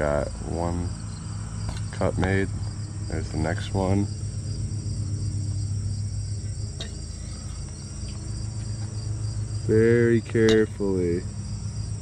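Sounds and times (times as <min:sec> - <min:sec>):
insects chirring: 0:00.0 - 0:12.0
low steady hum: 0:00.0 - 0:12.0.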